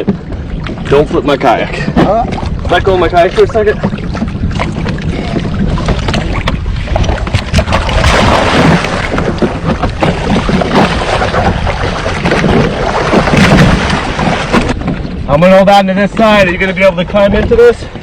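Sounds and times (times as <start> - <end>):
water splashing around kayak: 0.0 - 18.0
wind buffeting microphone: 0.0 - 18.0.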